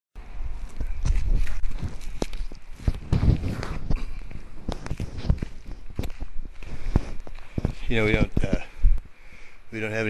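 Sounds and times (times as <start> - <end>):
footsteps: 0.5 - 9.2.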